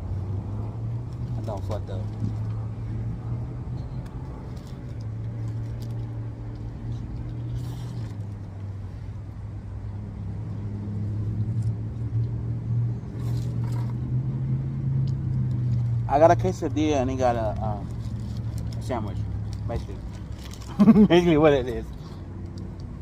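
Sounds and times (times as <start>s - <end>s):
car engine humming: 0.0s - 23.0s.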